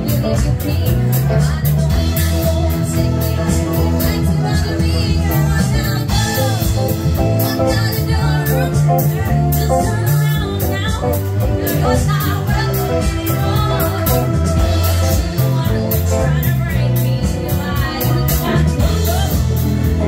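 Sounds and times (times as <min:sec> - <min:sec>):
live rock band playing: 0:00.0 - 0:20.0
woman singing into a microphone: 0:00.0 - 0:20.0.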